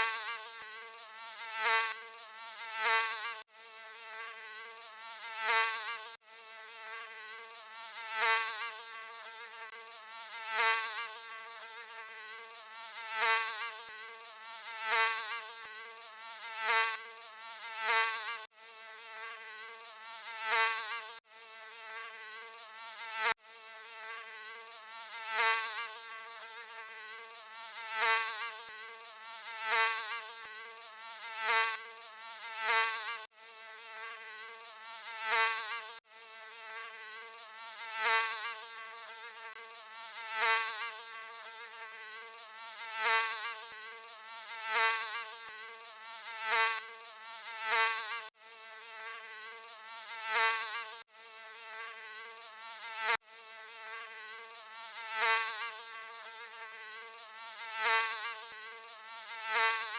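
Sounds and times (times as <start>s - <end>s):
mosquito buzzing: 0.0s - 59.9s.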